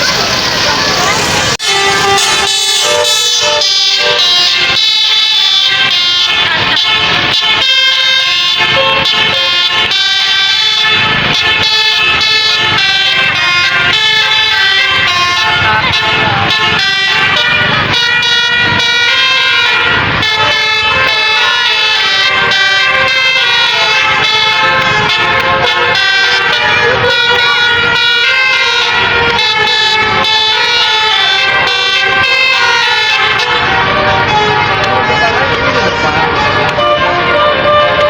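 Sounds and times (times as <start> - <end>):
musical air horn playing a tune: 1.2 - 38.0.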